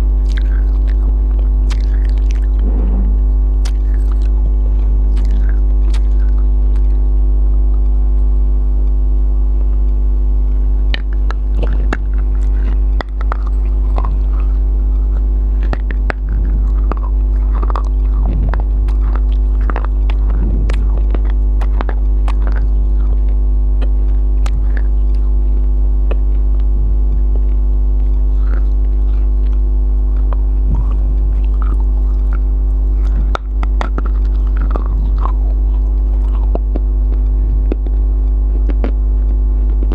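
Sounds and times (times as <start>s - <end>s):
wet mouth clicks: 0.0s - 8.0s, 10.8s - 39.9s
close-miked chewing: 0.0s - 39.9s
electrical hum: 0.0s - 39.9s.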